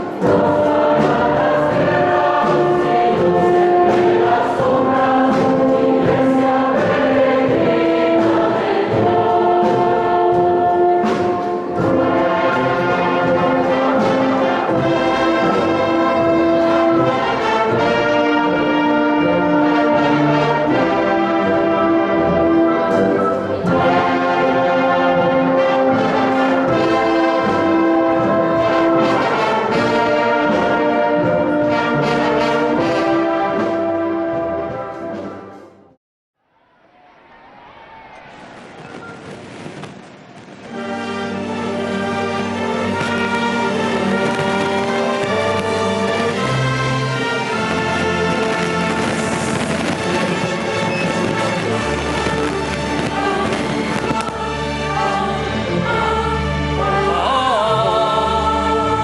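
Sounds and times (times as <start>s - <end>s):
mixed choir singing: 0.0s - 35.2s, 40.7s - 59.0s
orchestra with brass: 0.0s - 36.0s, 39.5s - 59.0s.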